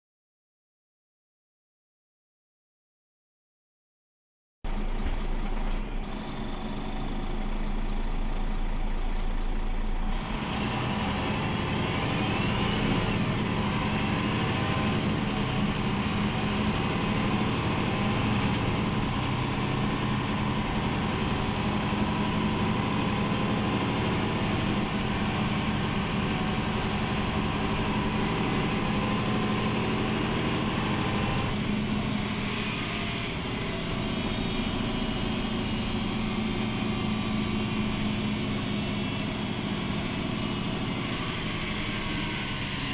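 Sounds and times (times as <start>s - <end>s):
bus diesel engine: 4.7s - 42.9s
road noise: 4.7s - 42.9s.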